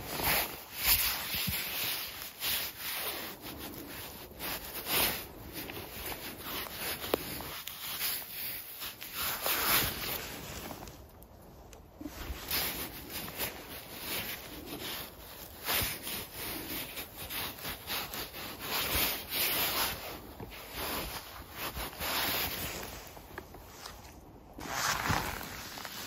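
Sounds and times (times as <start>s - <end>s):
gloved hands rustling moss: 0.0s - 26.0s.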